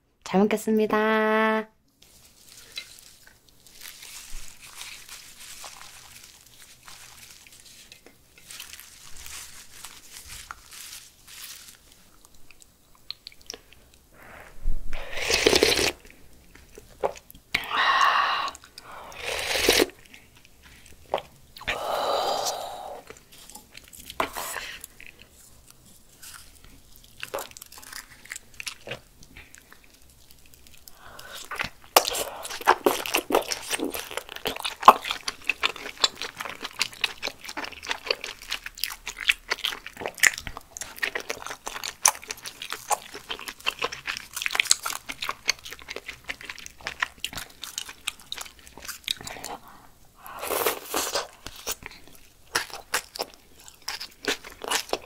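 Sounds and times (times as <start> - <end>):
crunchy wet chewing: 2.0 - 14.0, 15.2 - 17.8, 18.4 - 21.8, 23.0 - 55.0.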